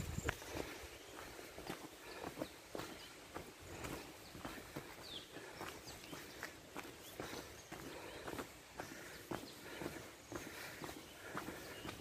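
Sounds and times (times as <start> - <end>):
footsteps on gravel and dry leaves: 0.0 - 12.0.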